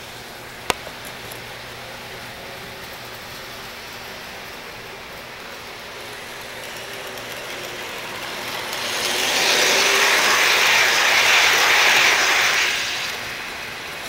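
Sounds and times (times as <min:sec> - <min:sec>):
model train wheels clattering: 0:00.0 - 0:14.0.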